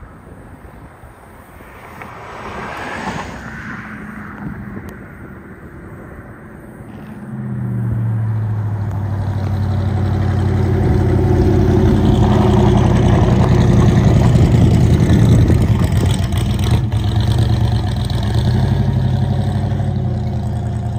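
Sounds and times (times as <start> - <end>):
car engine passing by: 0.7 - 20.9.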